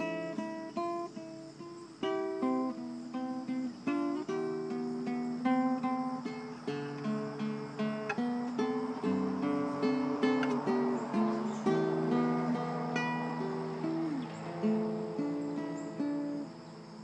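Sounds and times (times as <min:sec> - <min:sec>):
classical guitar fingerpicking: 0:00.0 - 0:17.0.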